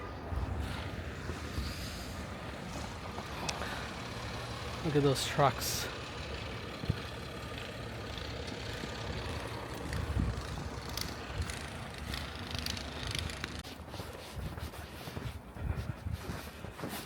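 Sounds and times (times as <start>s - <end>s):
truck engines humming: 0.0s - 14.2s.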